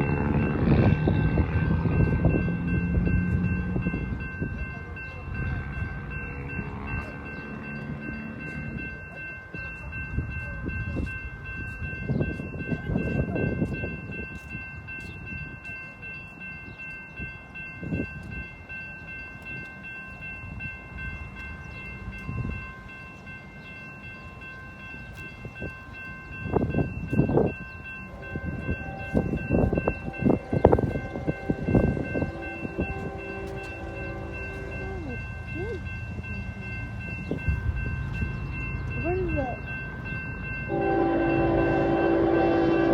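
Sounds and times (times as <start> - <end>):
freight train rumbling on rails: 0.0 - 42.9.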